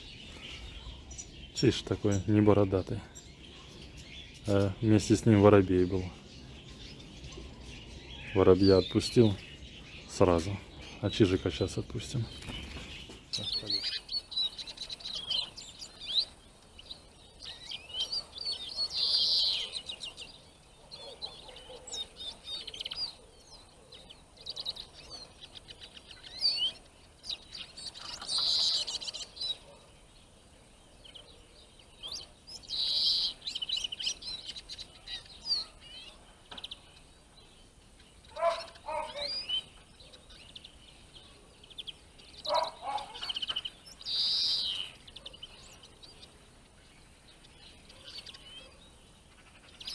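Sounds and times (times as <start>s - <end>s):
low rough bird calls: 0.0s - 49.9s
songbirds chirping: 0.0s - 49.9s.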